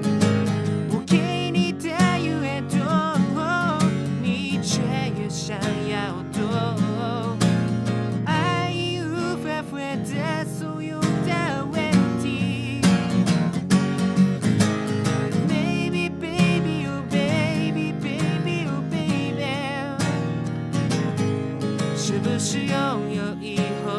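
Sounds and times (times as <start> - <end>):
acoustic guitar: 0.0 - 23.9
man singing wordless notes: 0.8 - 13.2, 15.4 - 20.3, 21.9 - 23.9.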